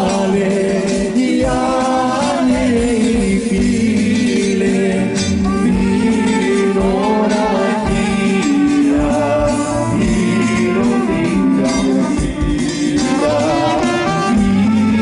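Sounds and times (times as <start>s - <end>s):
folk song with instruments: 0.0s - 15.0s
low drum beat: 0.0s - 15.0s.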